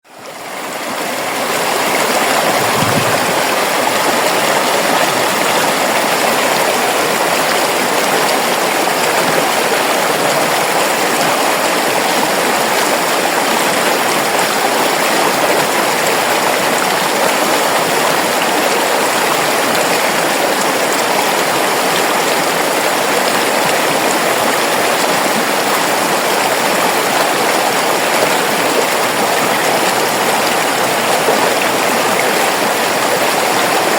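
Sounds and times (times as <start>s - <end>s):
river water rushing: 0.1s - 33.9s.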